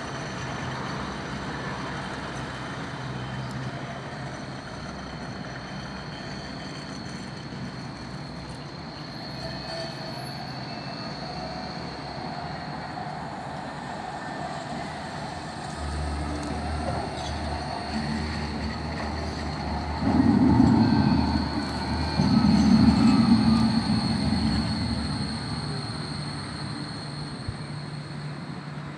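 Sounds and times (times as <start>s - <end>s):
tram rumble: 0.0s - 28.9s
tram wheels squealing: 0.0s - 28.9s.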